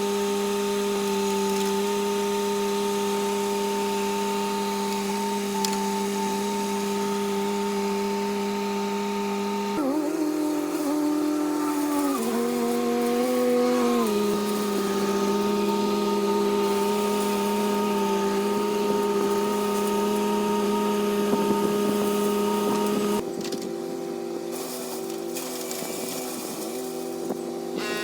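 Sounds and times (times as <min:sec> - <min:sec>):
skid steer engine running: 0:00.0 - 0:28.0.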